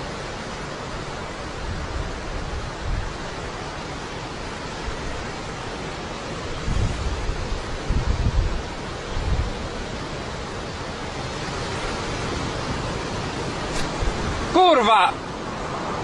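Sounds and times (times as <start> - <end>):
wind buffeting the microphone: 0.0 - 14.6
ocean surf: 0.0 - 16.0.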